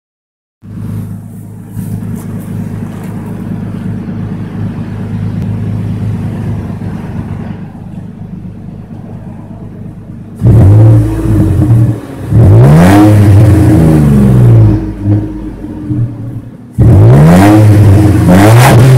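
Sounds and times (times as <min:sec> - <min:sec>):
car engine idling: 0:00.6 - 0:18.9
engine revving: 0:00.6 - 0:18.9.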